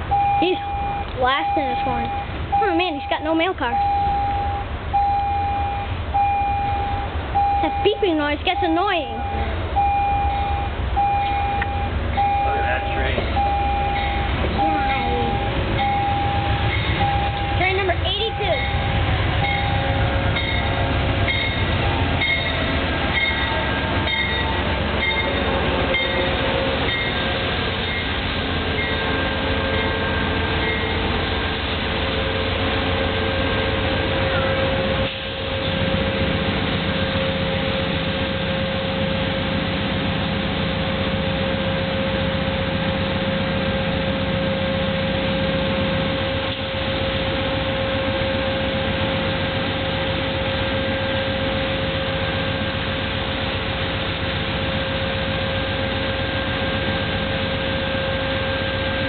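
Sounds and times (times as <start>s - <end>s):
diesel train rumbling past: 0.0s - 59.0s
low engine hum: 0.0s - 59.0s.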